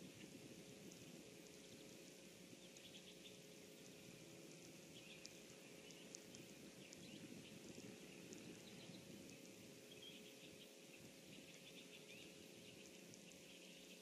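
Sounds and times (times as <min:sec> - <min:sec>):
faint high chirps and ticks: 0:00.0 - 0:14.0
low hiss and hum: 0:00.0 - 0:14.0.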